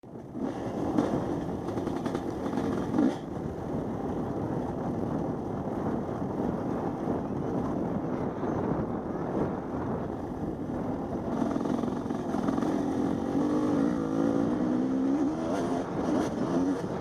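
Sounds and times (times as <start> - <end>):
wind on microphone: 0.0 - 17.0
dirt bike engine running: 0.1 - 8.1, 8.7 - 17.0.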